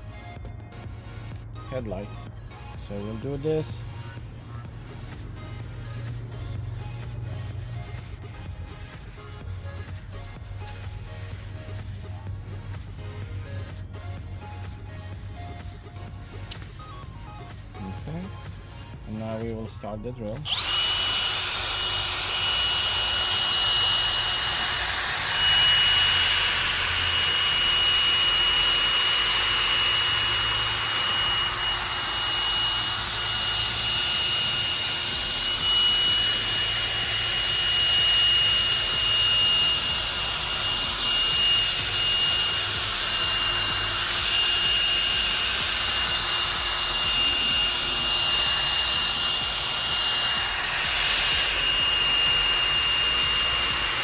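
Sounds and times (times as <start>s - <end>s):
electric drill whining: 2.6s - 54.0s.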